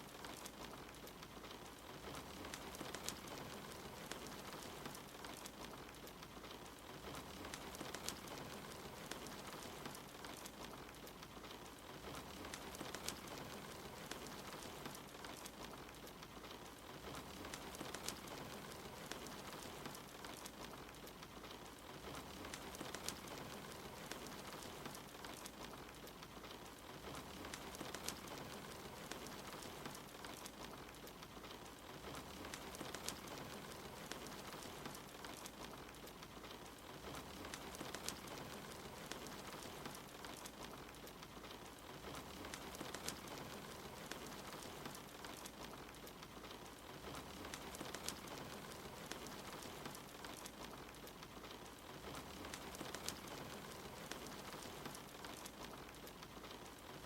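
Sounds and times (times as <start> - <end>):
soft rain: 0.0 - 57.0
wood fire crackling: 0.0 - 57.0.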